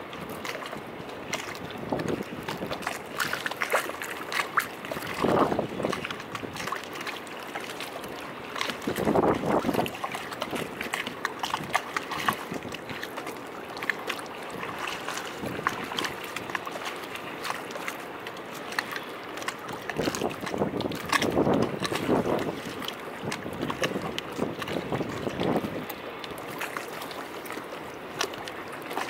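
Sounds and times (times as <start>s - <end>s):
small waves lapping and splashing: 0.0s - 29.0s.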